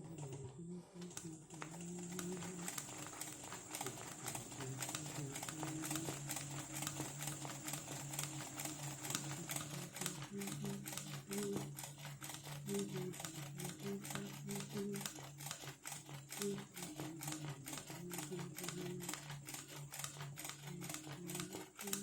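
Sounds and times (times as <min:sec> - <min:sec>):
sewing machine stitching: 0:00.0 - 0:22.0.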